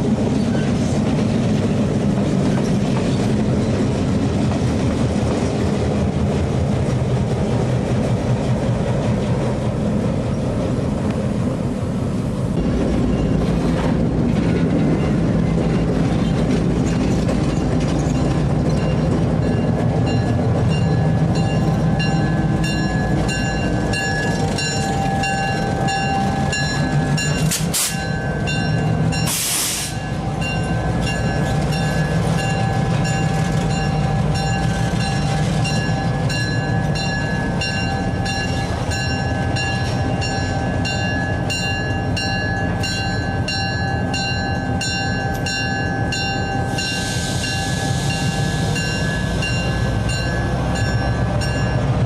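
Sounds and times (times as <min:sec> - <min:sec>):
diesel locomotive droning: 0:00.0 - 0:52.0.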